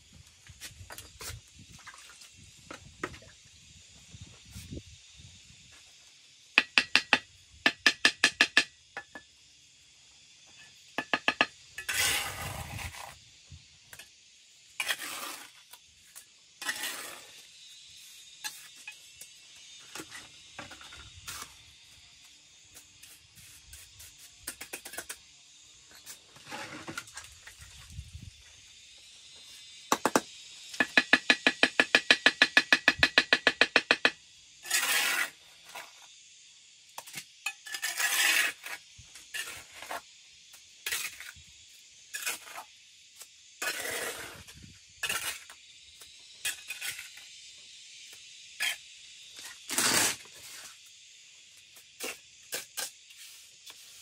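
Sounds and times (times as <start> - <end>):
steady high hiss: 0.0 - 54.0.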